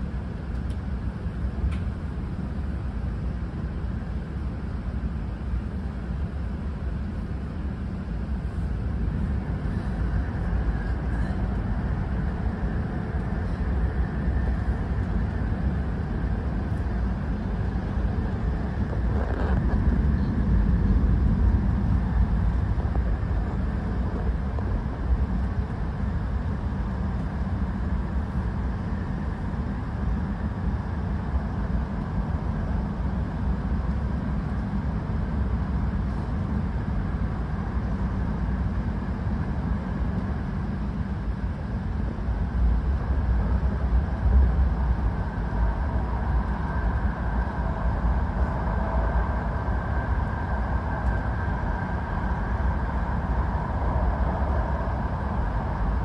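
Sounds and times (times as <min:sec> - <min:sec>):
train rumble from inside car: 0:00.0 - 0:56.0.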